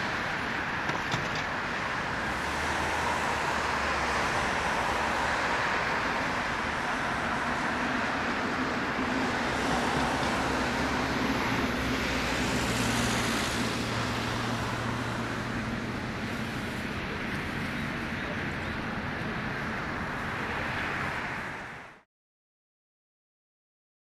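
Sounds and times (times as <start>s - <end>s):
jet engines rumbling: 0.0s - 21.7s.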